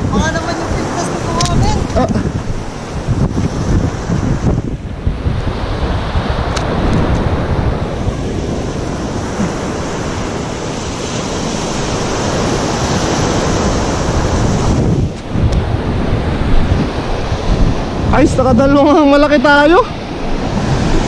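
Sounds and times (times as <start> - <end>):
waves washing onto beach: 0.0 - 21.0
wind rumble on microphone: 0.0 - 21.0.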